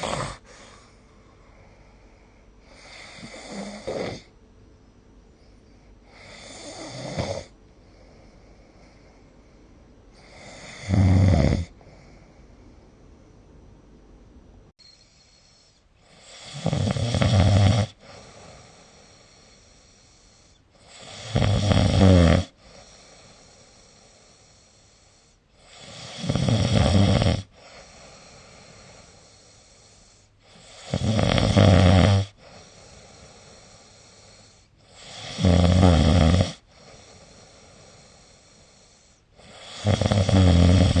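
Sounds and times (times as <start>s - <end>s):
person snoring: 0.0s - 1.8s, 2.6s - 4.3s, 6.0s - 9.1s, 10.2s - 12.5s, 15.0s - 41.0s
quiet breathing: 0.0s - 13.7s, 14.7s - 41.0s.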